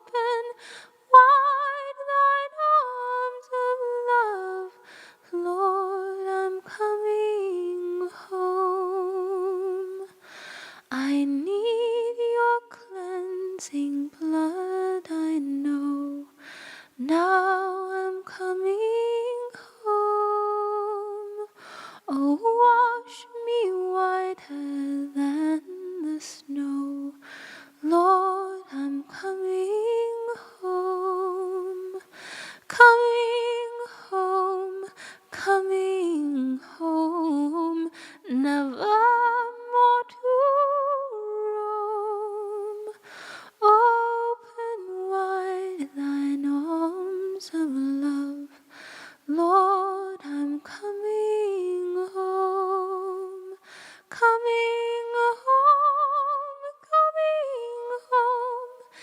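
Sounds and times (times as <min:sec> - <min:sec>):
woman singing a cappella hymn: 0:00.0 - 0:59.0.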